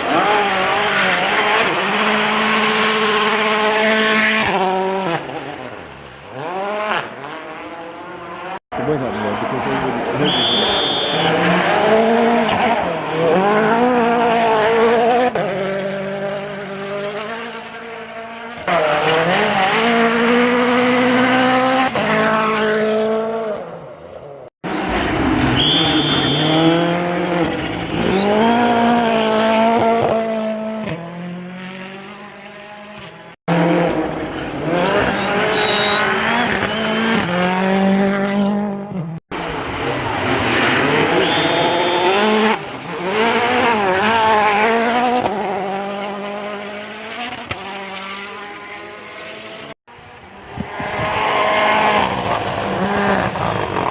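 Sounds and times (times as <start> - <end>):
rally cars passing at speed: 0.0 - 53.9.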